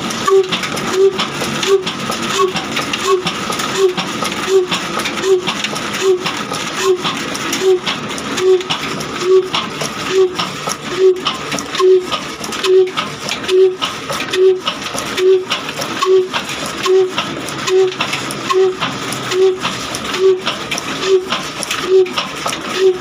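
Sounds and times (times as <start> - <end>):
diesel engine heavy beat: 0.0 - 23.0
mechanical clatter: 0.0 - 23.0.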